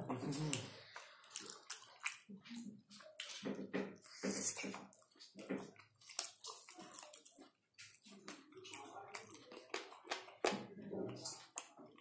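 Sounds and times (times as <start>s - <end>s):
chewing and mouth sounds: 0.0s - 12.0s.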